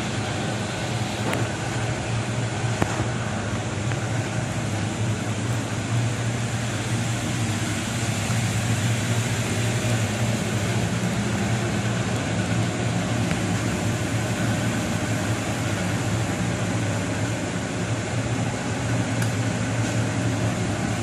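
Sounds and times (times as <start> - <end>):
ventilation fans humming: 0.0 - 21.0.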